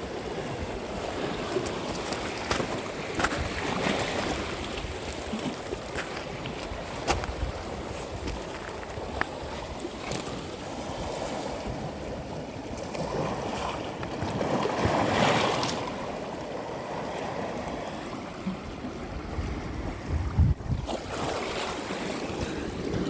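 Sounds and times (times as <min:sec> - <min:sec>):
sea waves on sandy beach: 0:00.0 - 0:23.0.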